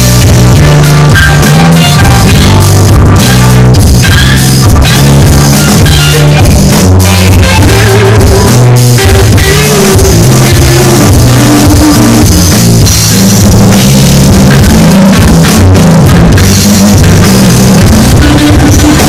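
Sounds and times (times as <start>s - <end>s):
bass line: 0.0s - 19.0s
drum kit: 0.0s - 19.0s
electric guitar: 0.0s - 19.0s.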